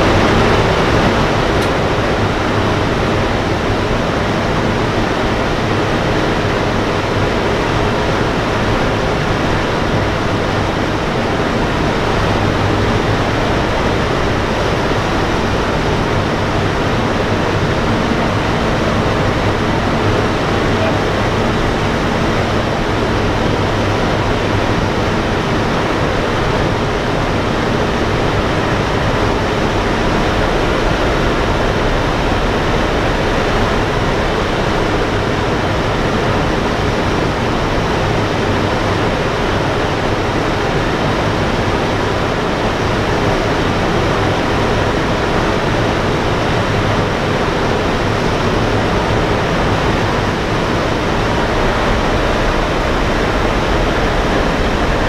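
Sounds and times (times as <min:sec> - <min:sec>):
aircraft engines droning: 0:00.0 - 0:55.0.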